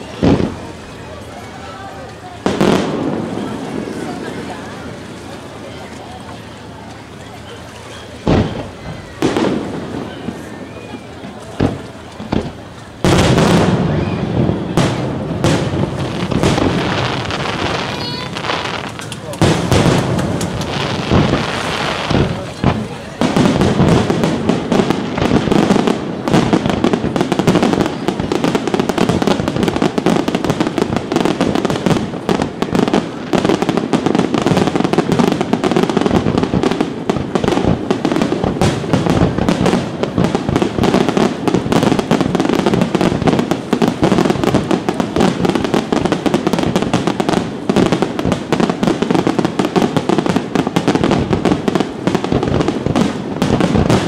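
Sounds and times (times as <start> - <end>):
firework shells bursting: 8.1 - 54.0.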